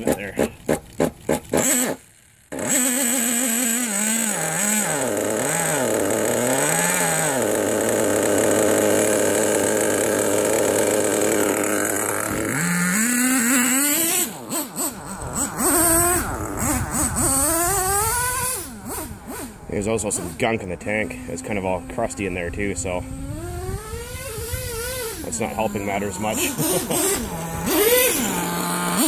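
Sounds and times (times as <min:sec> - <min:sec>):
nitro engine revving: 0:00.0 - 0:29.0.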